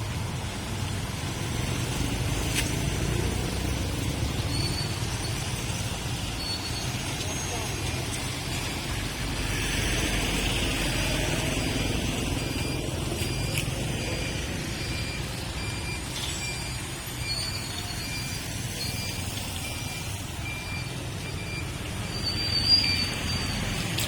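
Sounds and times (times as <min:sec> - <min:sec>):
traffic on wet street: 0:00.0 - 0:24.0.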